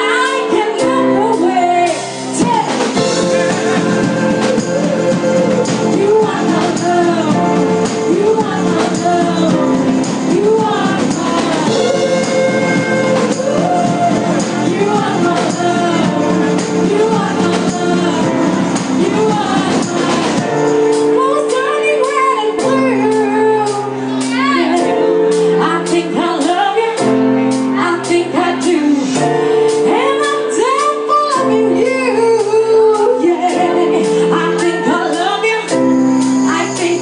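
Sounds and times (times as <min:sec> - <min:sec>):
drum kit: 0:00.0 - 0:37.0
keyboard chords: 0:00.0 - 0:37.0
live band playing: 0:00.0 - 0:37.0
woman singing lead: 0:00.0 - 0:37.0.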